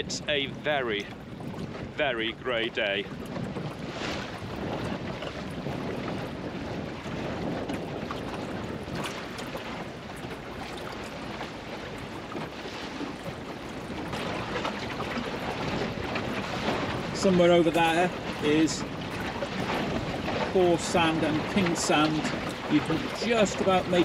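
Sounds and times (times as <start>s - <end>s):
water rushing along boat hull: 0.0s - 24.0s
wind buffeting microphone: 0.0s - 24.0s.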